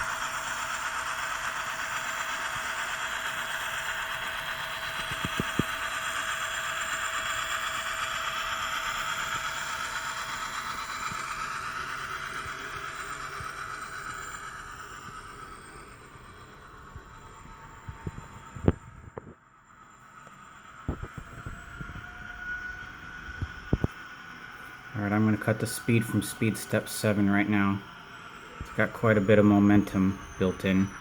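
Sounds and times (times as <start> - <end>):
model diesel engine sound from speaker: 0.0 - 31.0
model running gear on track: 0.0 - 31.0.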